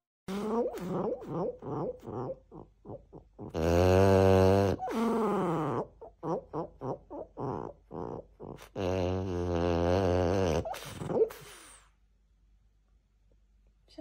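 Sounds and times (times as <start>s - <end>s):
dog snoring: 0.3s - 11.8s.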